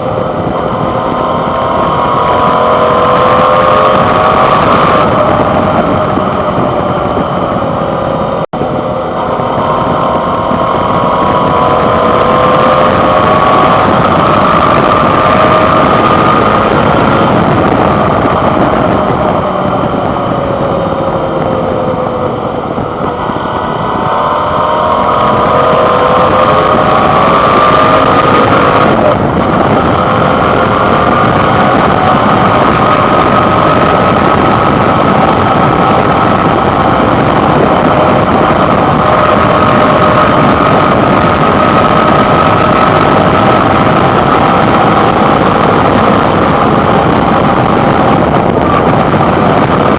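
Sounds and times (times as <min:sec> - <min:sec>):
motorcycle engine running: 0:00.0 - 0:49.9
wind rush on microphone: 0:00.0 - 0:49.9.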